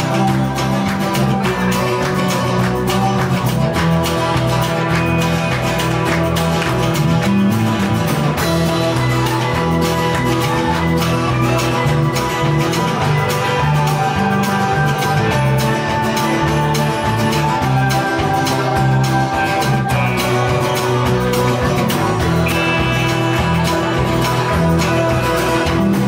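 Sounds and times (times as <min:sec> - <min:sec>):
bass line: 0:00.0 - 0:26.0
guitar playing: 0:00.0 - 0:26.0
steady drum beat: 0:00.0 - 0:26.0.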